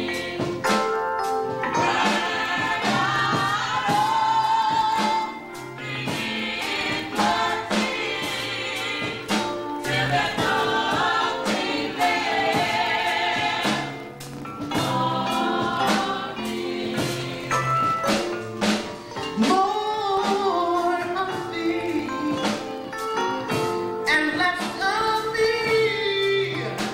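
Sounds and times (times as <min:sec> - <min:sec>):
steady beat: 0:00.0 - 0:22.6
gospel choir singing: 0:00.0 - 0:26.9.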